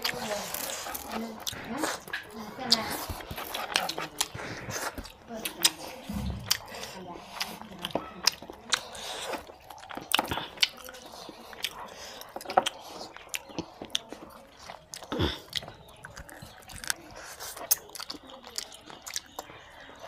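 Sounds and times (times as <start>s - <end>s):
chewing and mouth noises: 0.0s - 20.0s.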